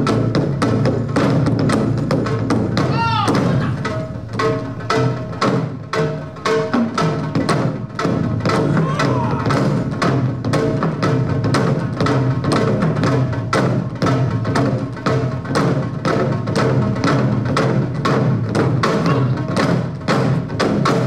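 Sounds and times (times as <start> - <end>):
drum ensemble playing fast rhythm: 0.0 - 21.0.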